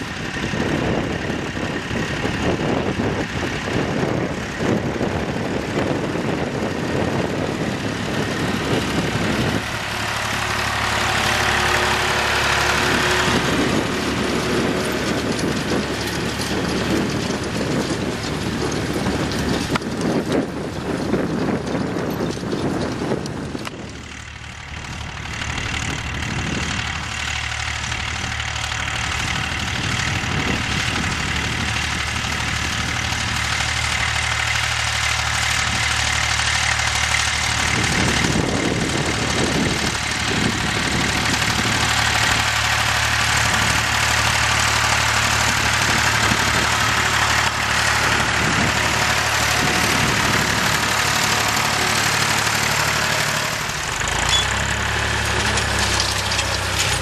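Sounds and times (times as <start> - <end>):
tractor diesel engine: 0.0 - 57.0.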